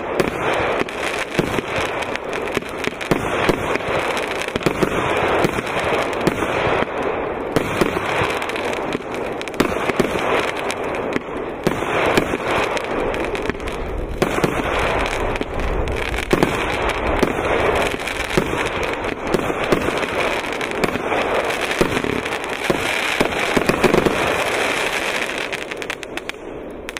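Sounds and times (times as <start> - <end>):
dense firework crackling: 0.0 - 26.9
firework shots and bursts: 0.0 - 26.9.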